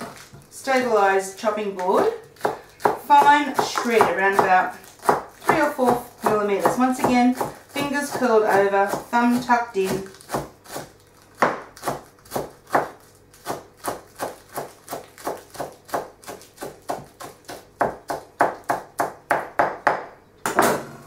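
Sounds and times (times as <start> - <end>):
knife chopping on board: 2.4 - 20.8.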